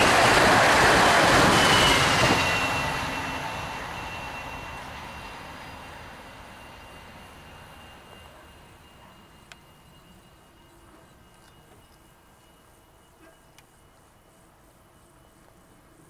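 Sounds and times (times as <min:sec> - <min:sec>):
electric train rumbling past: 0:00.0 - 0:16.0
thin high whine: 0:01.0 - 0:16.0.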